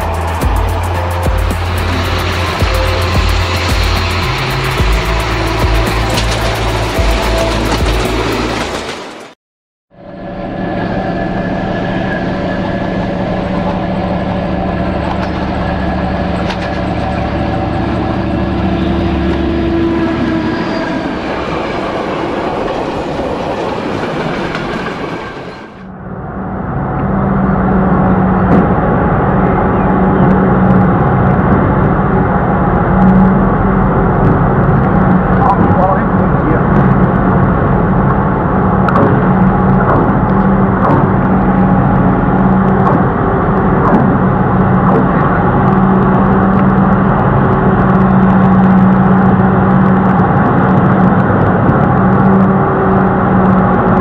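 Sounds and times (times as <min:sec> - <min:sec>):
diesel locomotive engine throbbing: 0:00.0 - 0:54.0.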